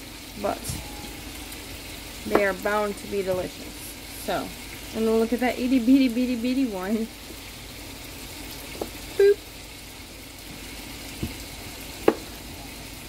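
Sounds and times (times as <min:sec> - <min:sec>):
chicken sizzling in a skillet: 0:00.0 - 0:13.0.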